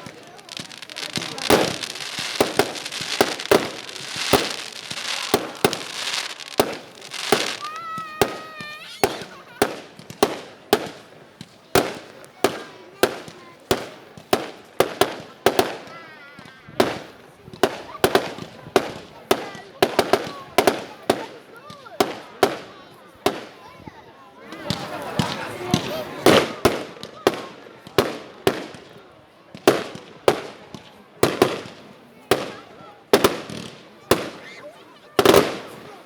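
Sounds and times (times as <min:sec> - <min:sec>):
fireworks bangs: 0:00.0 - 0:23.6, 0:24.5 - 0:36.0
fireworks crackling: 0:00.0 - 0:23.7, 0:24.4 - 0:36.0.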